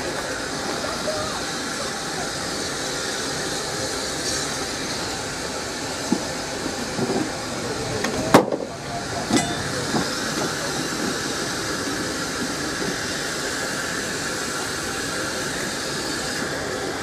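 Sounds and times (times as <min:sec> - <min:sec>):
steam hissing from locomotive: 0:00.0 - 0:17.0
railway points clanking: 0:02.3 - 0:17.0.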